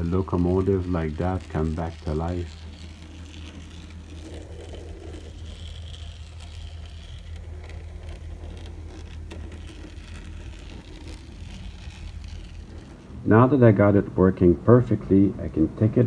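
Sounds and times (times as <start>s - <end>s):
wheels clicking on rails: 0.0s - 13.5s
model train motor humming: 0.0s - 14.0s.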